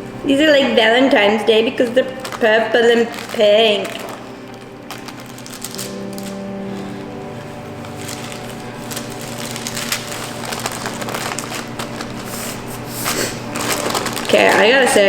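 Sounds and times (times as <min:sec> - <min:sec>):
wax paper crinkling: 0:01.1 - 0:15.0.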